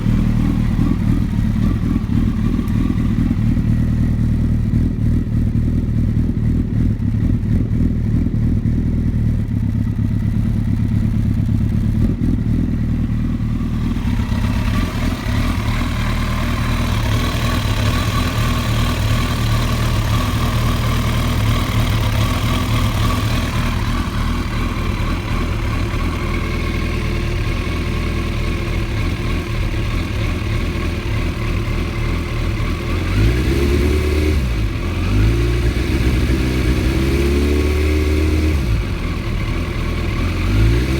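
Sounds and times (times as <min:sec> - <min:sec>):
engine rough idle and revving: 0:00.0 - 0:40.9.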